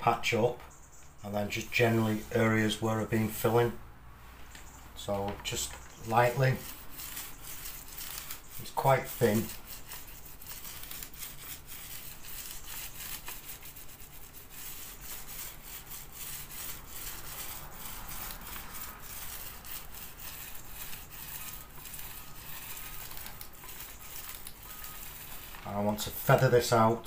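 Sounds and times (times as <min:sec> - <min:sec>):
paint roller rolling on wall: 0:05.0 - 0:27.0.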